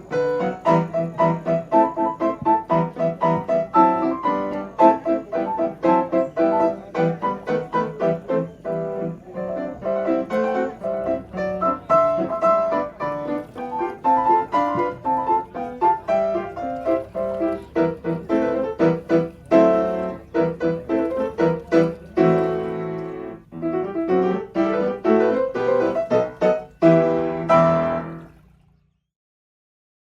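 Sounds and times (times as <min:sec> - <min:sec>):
piano music: 0:00.0 - 0:28.7.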